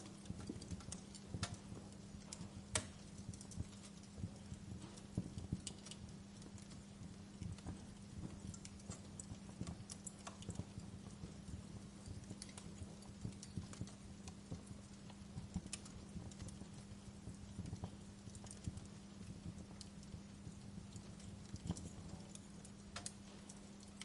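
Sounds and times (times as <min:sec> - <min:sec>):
fire crackling and popping: 0:00.0 - 0:24.0
low steady hum: 0:00.0 - 0:24.0.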